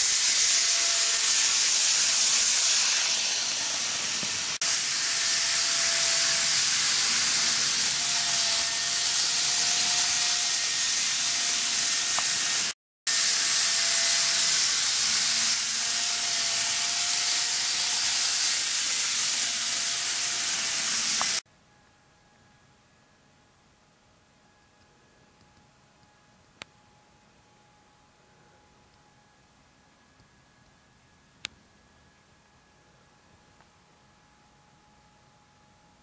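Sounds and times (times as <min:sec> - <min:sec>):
faint motor whine: 0:00.0 - 0:36.0.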